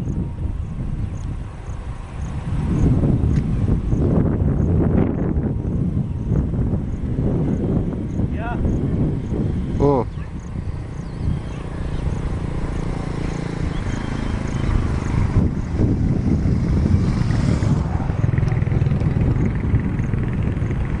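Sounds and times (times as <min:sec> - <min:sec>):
vehicle road rumble: 0:00.0 - 0:21.0
wind buffeting: 0:00.0 - 0:21.0.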